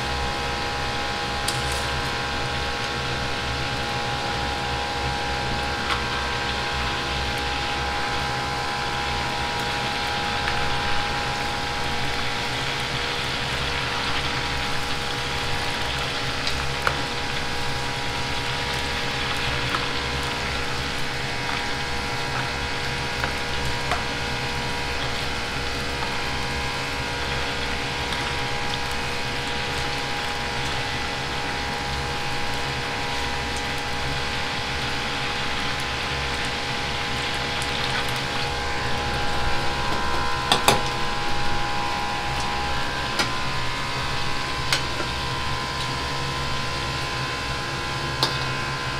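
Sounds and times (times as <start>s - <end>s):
gas burner hum: 0.0s - 48.9s
liquid boiling hard: 0.0s - 48.9s.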